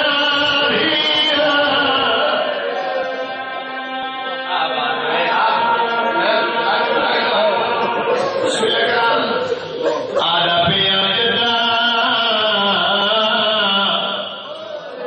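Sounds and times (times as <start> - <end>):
person chanting through microphone: 0.0 - 15.0.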